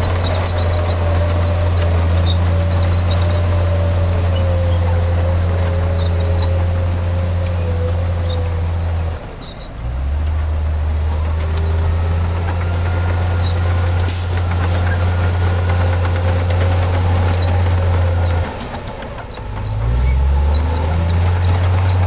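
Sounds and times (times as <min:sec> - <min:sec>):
heavy diesel engine humming: 0:00.0 - 0:22.0.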